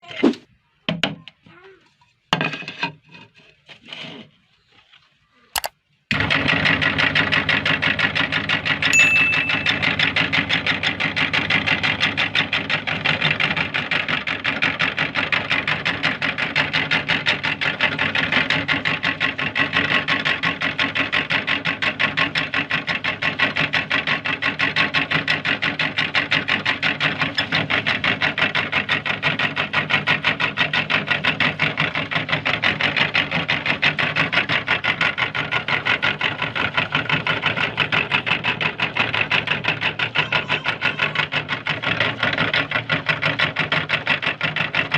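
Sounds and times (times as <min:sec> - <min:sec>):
electric meat grinder running: 0:06.1 - 0:08.9, 0:09.5 - 0:44.9.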